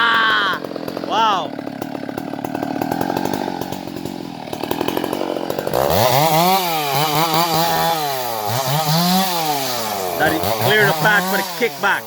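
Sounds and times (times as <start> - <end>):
chainsaw revving and cutting: 0.0 - 12.0.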